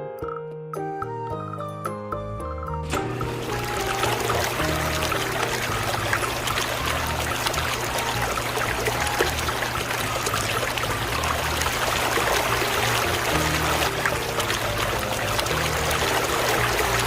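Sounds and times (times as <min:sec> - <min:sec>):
water trickling and splashing: 0:03.0 - 0:17.0.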